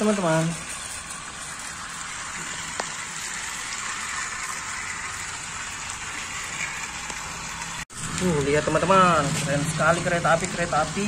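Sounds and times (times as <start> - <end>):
toy train motors whirring: 0.0 - 11.0.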